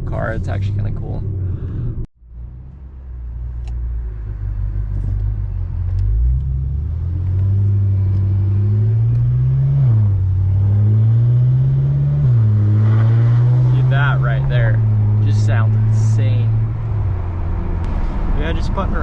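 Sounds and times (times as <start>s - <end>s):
car engine accelerating: 0.1s - 19.0s.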